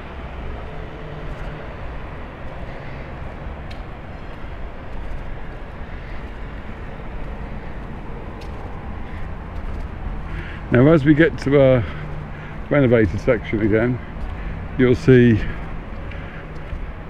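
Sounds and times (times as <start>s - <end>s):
street background rumble: 0.0s - 17.0s.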